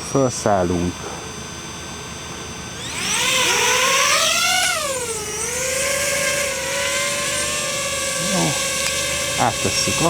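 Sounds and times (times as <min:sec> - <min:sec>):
drone propellers whining: 0:01.0 - 0:10.0.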